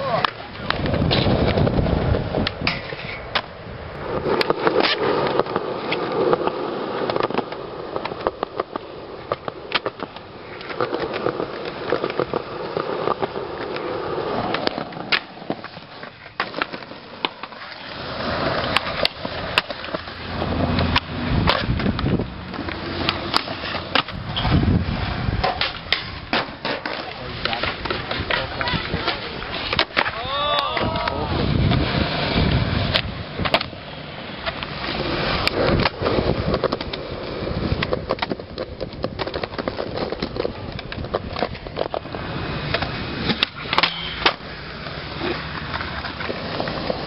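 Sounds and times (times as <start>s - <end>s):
skateboard clacks: 0.0s - 47.0s
skateboard wheels rolling on concrete: 0.0s - 47.0s.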